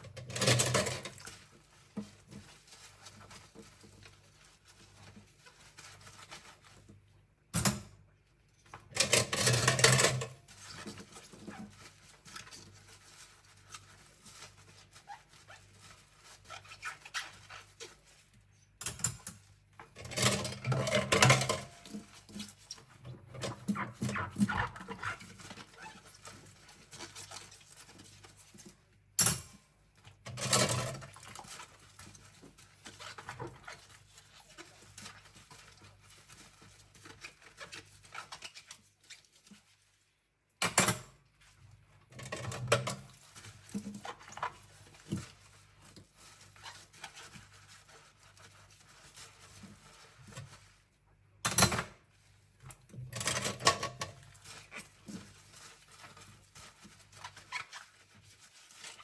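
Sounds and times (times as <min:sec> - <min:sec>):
cutlery scrubbed at a sink: 0:00.1 - 0:06.9, 0:08.8 - 0:28.8, 0:29.5 - 0:39.9, 0:40.9 - 0:50.9, 0:51.6 - 0:59.0.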